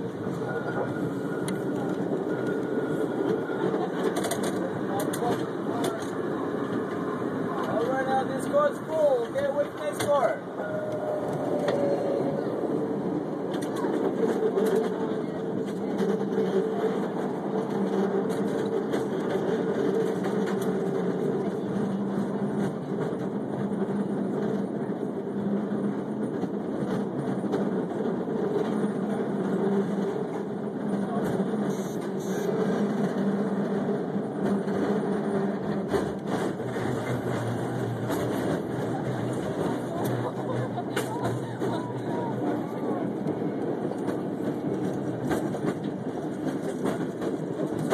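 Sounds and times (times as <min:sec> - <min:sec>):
cable car wheels rumbling: 0:00.0 - 0:47.9.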